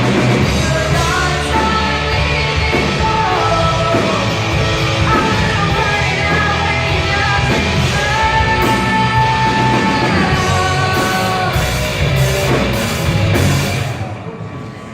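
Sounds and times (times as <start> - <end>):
distorted guitars: 0.0 - 14.9
drums: 0.0 - 14.9.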